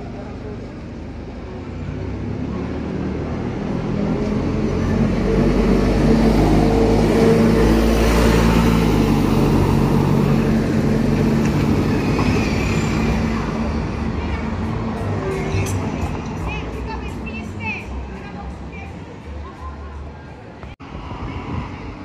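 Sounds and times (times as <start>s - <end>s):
bus driving past: 0.0s - 22.0s.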